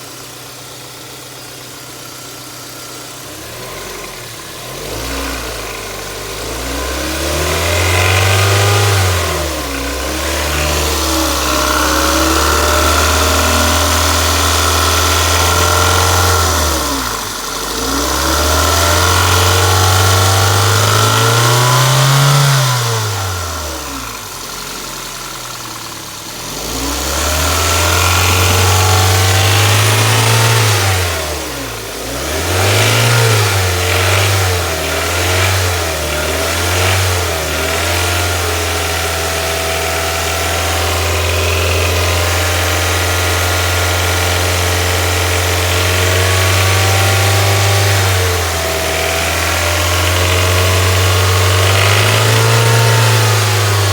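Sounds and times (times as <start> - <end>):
car engine revving: 0.0 - 53.9
engine knocking: 0.0 - 53.9.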